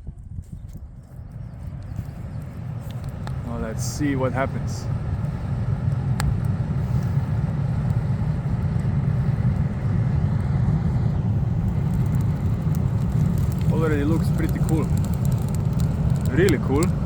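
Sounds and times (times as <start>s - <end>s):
ventilator fan rumbling: 0.0s - 17.0s.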